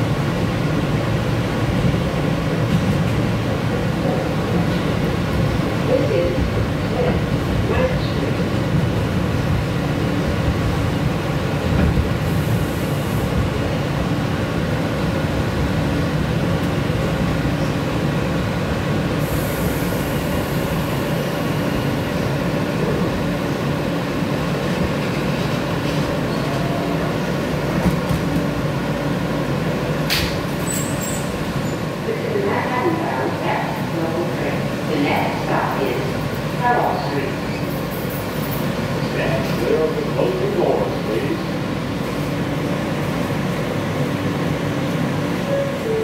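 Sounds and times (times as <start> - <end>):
subway wheels rumbling on rails: 0.0 - 46.0.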